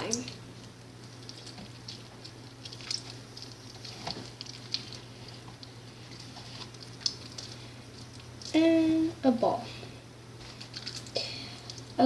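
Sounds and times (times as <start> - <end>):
sticky slime squelches: 0.0 - 9.8, 10.4 - 12.0.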